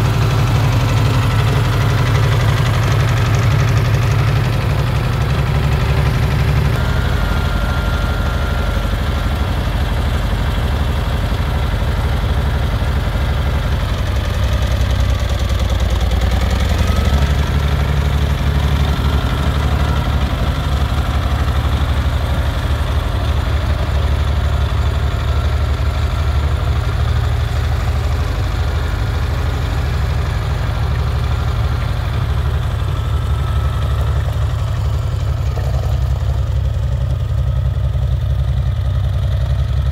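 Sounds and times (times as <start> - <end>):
tractor engine: 0.0 - 39.9.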